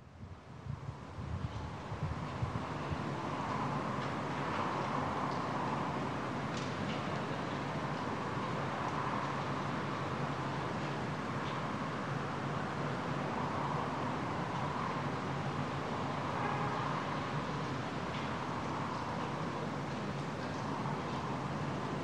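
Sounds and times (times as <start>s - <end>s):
vehicle rumble and hiss: 0.0s - 22.0s.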